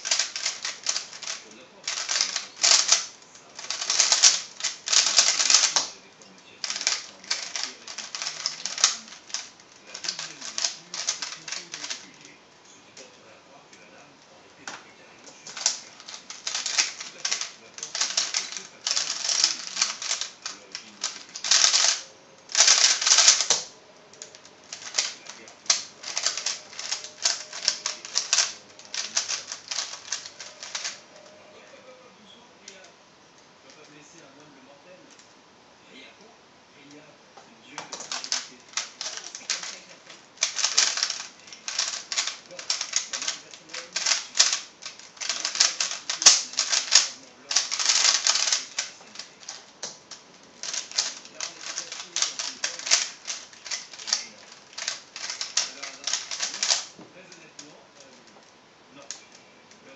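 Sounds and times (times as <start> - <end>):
puzzle cube clicking: 0.0 - 6.0, 6.6 - 12.2, 15.3 - 31.3, 37.8 - 58.4.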